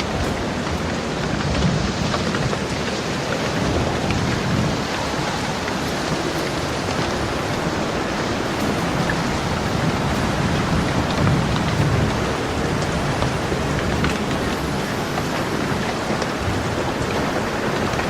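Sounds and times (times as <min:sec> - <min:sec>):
low rolling thunder: 0:00.0 - 0:18.0
steady rain falling: 0:00.0 - 0:18.0.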